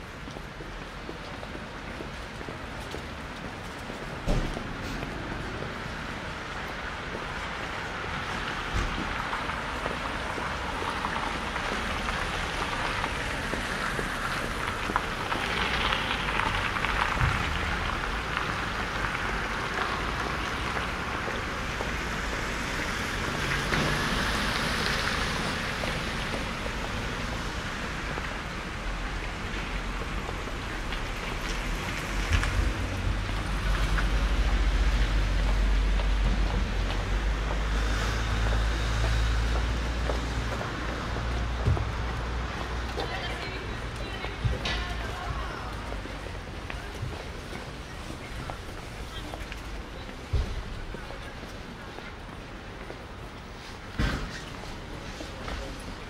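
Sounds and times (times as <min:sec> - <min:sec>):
cars passing: 0:00.0 - 0:56.0.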